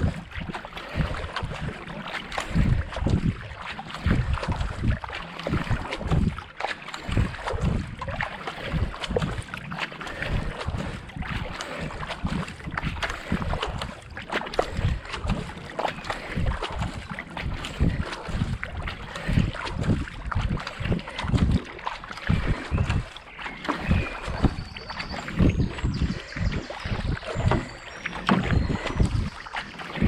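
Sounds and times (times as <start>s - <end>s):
paddles splashing water: 0.0s - 30.0s
wind buffeting microphone: 0.0s - 30.0s.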